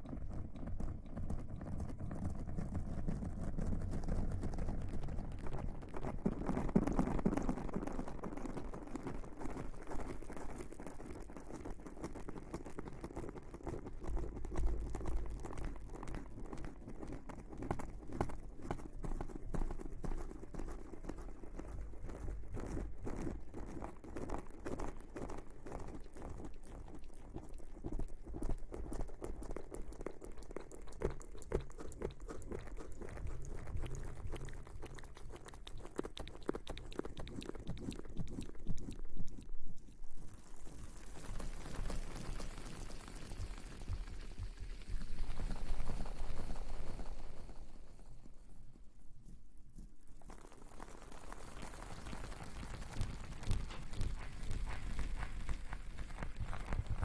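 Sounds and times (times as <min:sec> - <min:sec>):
soft rustling crackles: 0:04.3 - 0:57.0.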